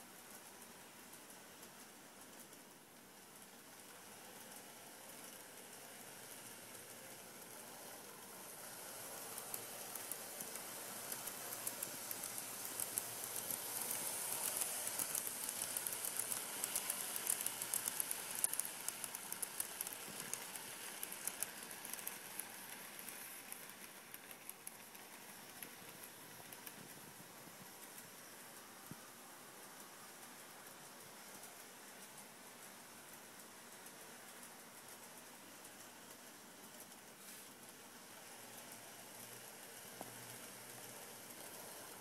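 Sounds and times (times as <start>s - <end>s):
model train wheels rattling: 0.0s - 42.0s.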